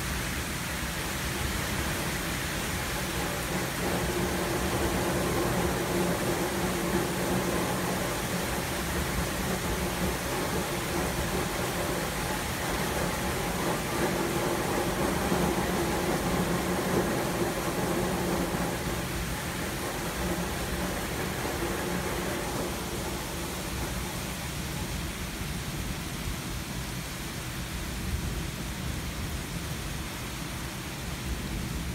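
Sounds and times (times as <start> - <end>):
rain hissing: 0.0 - 31.9.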